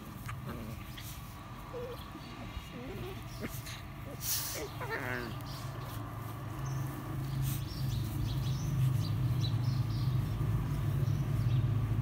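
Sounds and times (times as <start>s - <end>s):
dogs growling in play: 0.0s - 10.4s.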